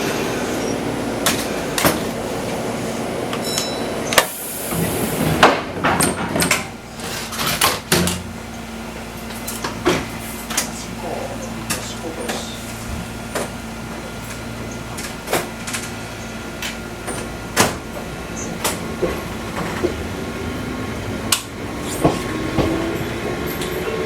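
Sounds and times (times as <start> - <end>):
rising tone of railcar pulling away: 0.0 - 7.5, 8.2 - 24.0
railcar equipment humming: 0.0 - 24.0.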